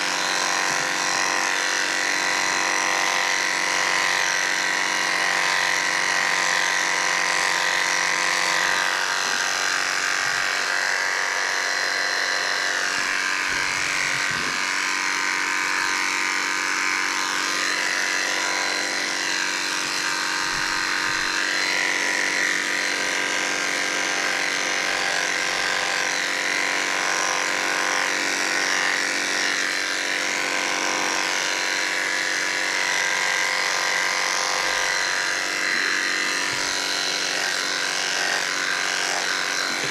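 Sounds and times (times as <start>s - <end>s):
electric clippers buzzing: 0.0s - 39.9s.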